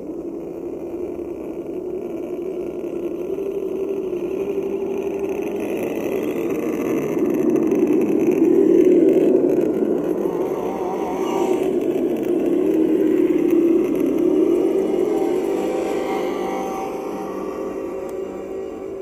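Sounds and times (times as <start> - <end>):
electric motors whining: 0.0 - 19.0.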